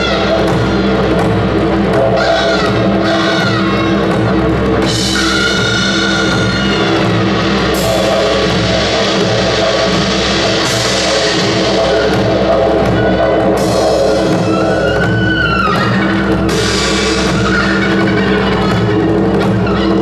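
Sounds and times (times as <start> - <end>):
drums: 0.0 - 20.0.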